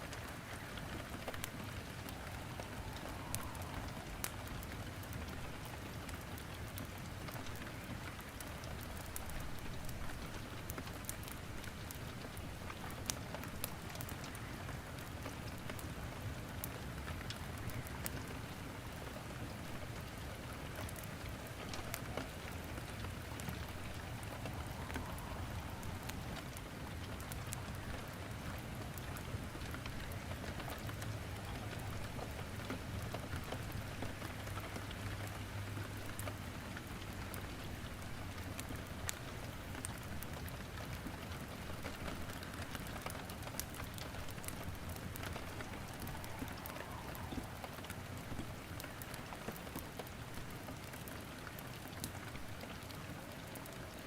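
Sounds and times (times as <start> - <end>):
steady rain falling: 0.0 - 54.0
wood fire crackling in fireplace: 0.0 - 54.0.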